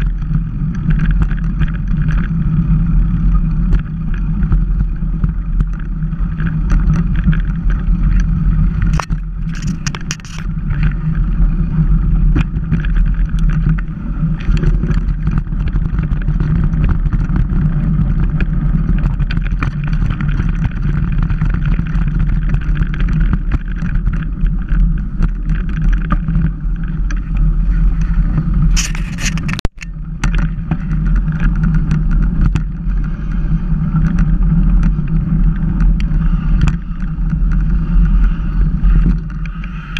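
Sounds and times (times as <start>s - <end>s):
bike rattling: 0.0s - 39.9s
bike tyres rumbling on gravel: 0.0s - 39.9s.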